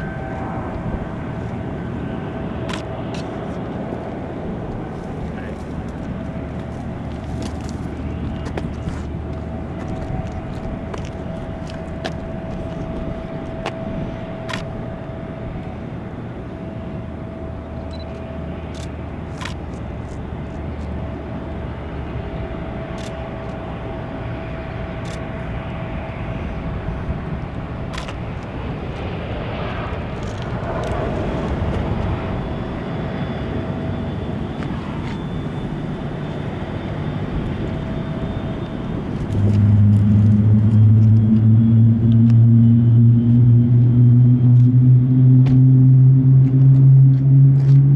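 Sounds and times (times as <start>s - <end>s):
jet airliner whine and rumble: 0.0s - 47.9s.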